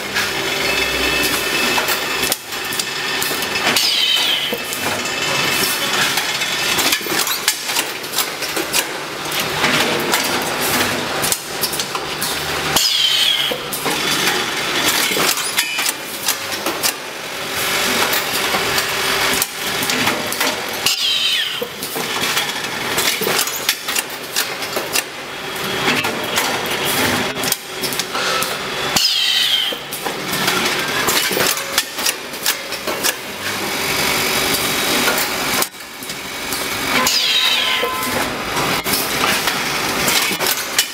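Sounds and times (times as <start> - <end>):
packing machine clatter: 1.2 - 40.9.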